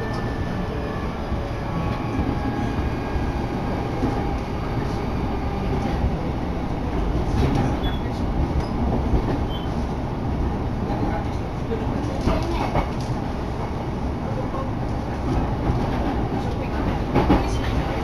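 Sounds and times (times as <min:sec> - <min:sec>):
train wheels low rumble: 0:00.0 - 0:18.0.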